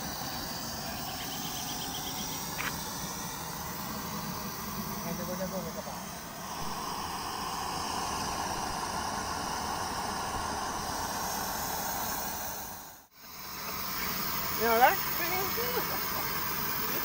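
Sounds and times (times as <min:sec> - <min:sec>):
gas burner hissing and rumbling: 0:00.0 - 0:17.0.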